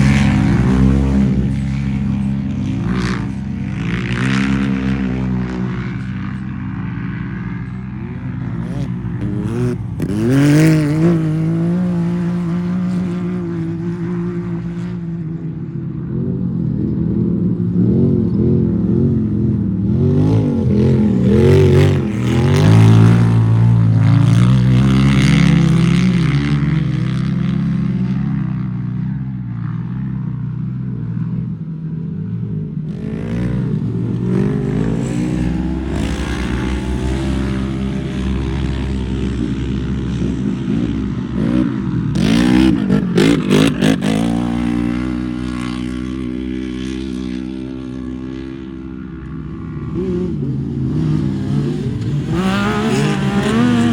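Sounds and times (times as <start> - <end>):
race vehicle engine running hard: 0.0 - 53.9.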